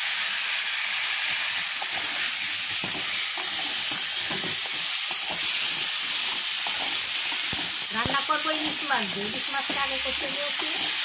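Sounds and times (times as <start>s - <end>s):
food sizzling in hot oil: 0.0s - 11.0s
spatula scraping wok: 1.2s - 11.0s.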